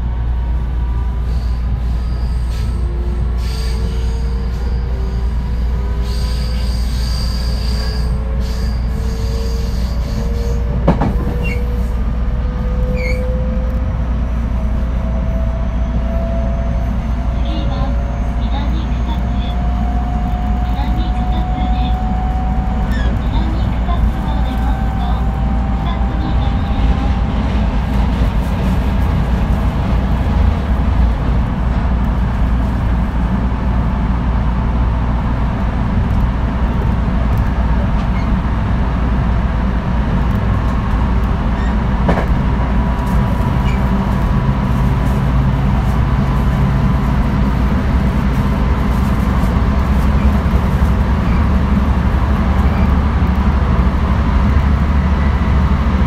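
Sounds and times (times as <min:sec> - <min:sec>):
electric train rumble: 0:00.0 - 0:56.0.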